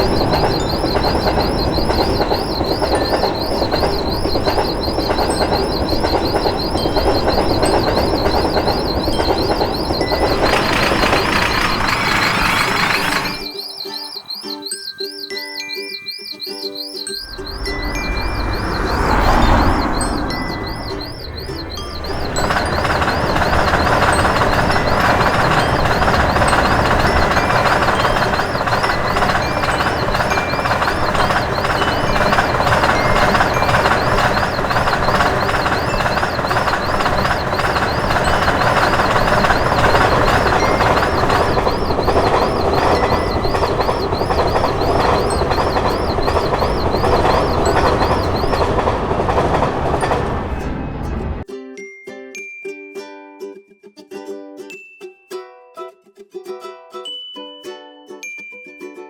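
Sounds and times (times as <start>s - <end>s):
crossing signal warning tone: 0.0s - 51.4s
train wheels clattering: 0.0s - 51.4s.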